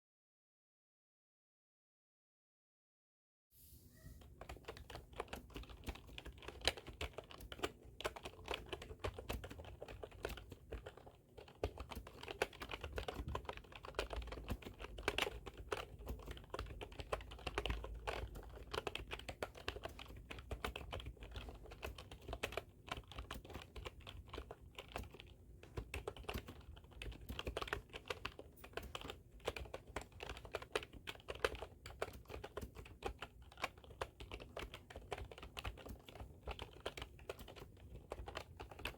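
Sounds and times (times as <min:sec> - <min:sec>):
keyboard typing: 0:04.2 - 0:38.9.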